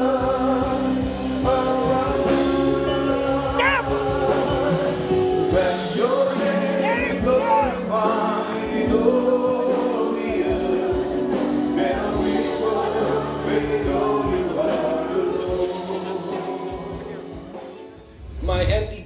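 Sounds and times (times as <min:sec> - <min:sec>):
choir singing gospel song: 0:00.0 - 0:18.2.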